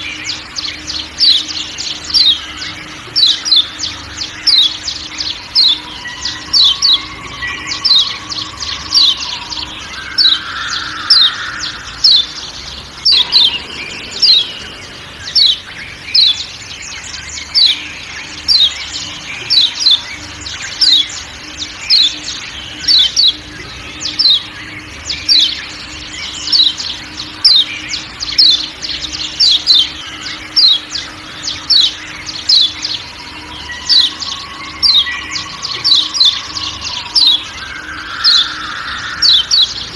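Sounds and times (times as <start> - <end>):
bird sharp chipping calls: 0.0 - 39.9
forest background: 0.0 - 39.9.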